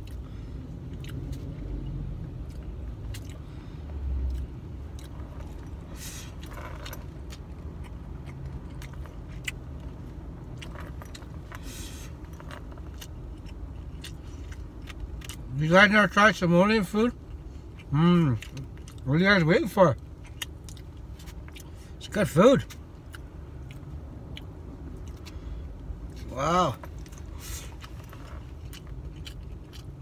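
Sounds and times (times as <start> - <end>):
chewing: 0.0 - 3.6, 4.2 - 15.5, 17.1 - 19.0, 20.0 - 22.0, 22.6 - 25.4, 26.1 - 30.0
low steady rumble: 0.0 - 30.0.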